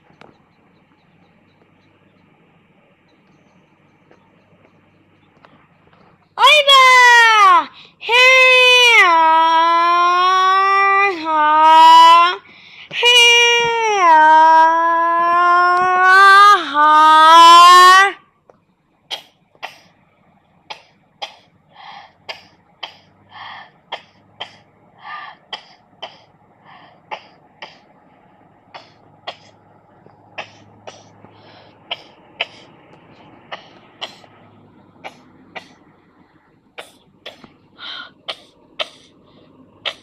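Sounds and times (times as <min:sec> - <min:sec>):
railcar hum: 0:00.0 - 0:40.0.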